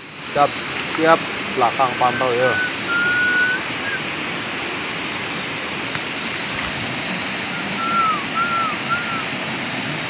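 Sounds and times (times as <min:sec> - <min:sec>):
faint high insect-like tone: 0:00.0 - 0:10.0
river water rushing: 0:00.1 - 0:10.0.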